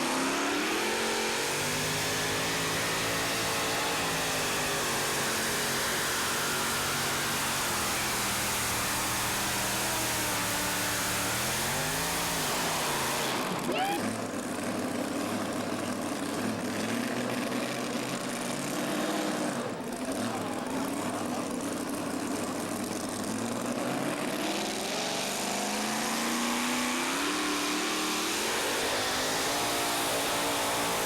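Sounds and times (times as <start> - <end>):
tractor engine running hard: 0.0 - 31.0.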